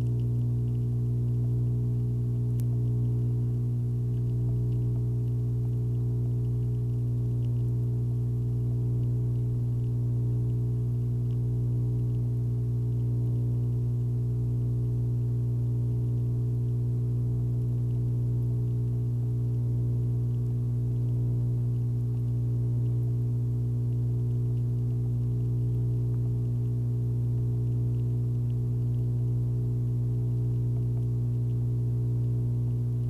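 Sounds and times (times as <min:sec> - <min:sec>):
deep low hum: 0:00.0 - 0:33.0.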